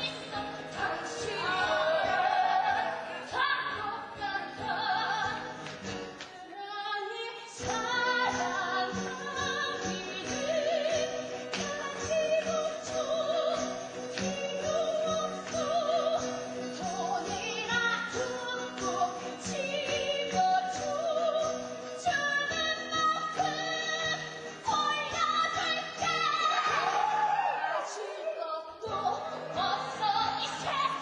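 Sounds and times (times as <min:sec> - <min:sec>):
woman singing with vibrato: 0:00.0 - 0:05.6, 0:06.3 - 0:31.0.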